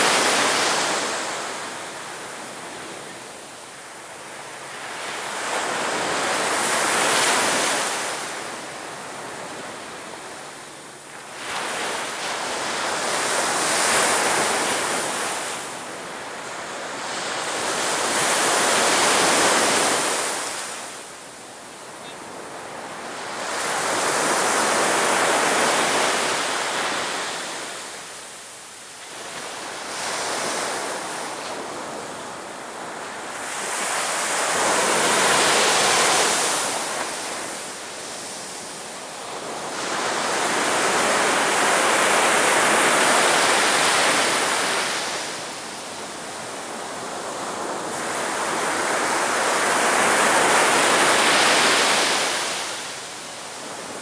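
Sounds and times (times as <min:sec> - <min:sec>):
sea waves breaking on beach: 0:00.0 - 0:03.3, 0:03.9 - 0:21.1, 0:22.3 - 0:54.0.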